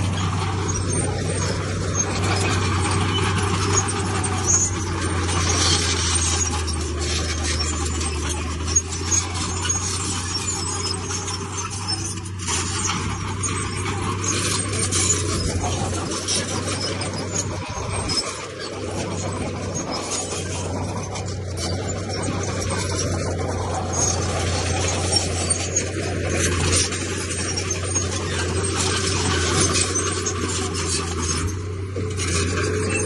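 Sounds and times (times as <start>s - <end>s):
diesel engine droning: 0.0s - 33.0s
steel tracks squealing: 0.0s - 33.0s
stone scraping under blade: 0.1s - 33.0s.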